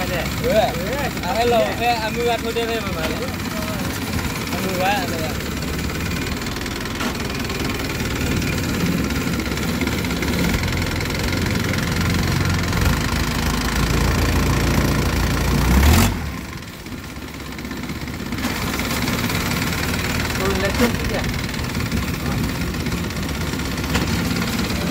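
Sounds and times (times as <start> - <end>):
boat engine rumbling: 0.0 - 24.9.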